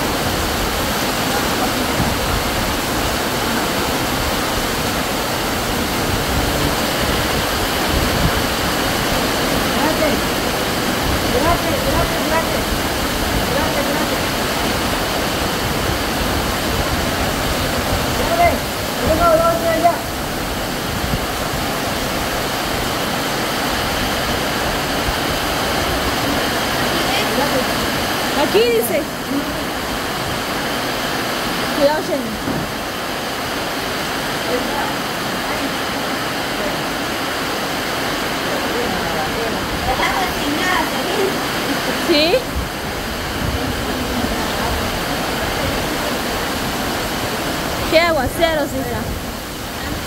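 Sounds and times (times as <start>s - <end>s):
heavy rain pouring: 0.0s - 50.0s.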